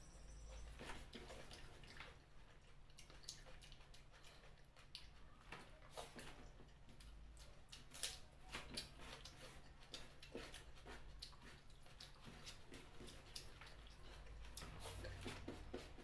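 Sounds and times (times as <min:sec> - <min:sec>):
person chewing and sucking: 0:01.3 - 0:05.3, 0:07.0 - 0:16.0.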